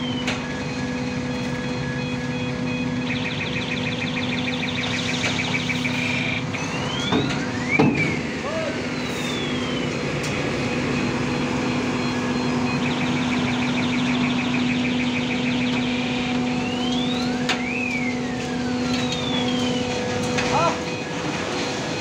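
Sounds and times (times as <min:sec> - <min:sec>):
hydraulic machinery humming: 0:00.0 - 0:22.0
rising and falling siren tones: 0:00.0 - 0:22.0
rapid electronic beeping: 0:01.0 - 0:07.9, 0:08.9 - 0:18.2, 0:20.5 - 0:22.0.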